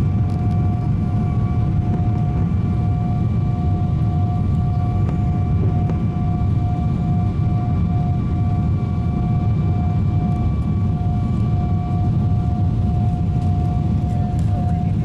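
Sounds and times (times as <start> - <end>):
jet engine rumble: 0.0 - 15.0
steady whining tone: 0.0 - 15.0.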